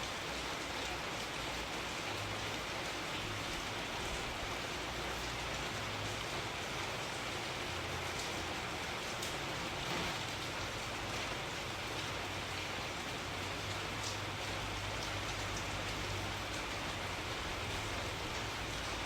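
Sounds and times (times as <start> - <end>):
steady rain hiss: 0.0 - 19.0
raindrop ticks: 2.1 - 19.0.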